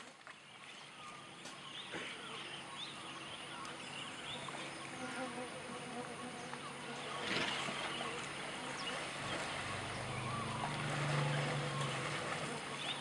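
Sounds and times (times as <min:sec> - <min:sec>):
faint insect hum: 0:00.1 - 0:13.0.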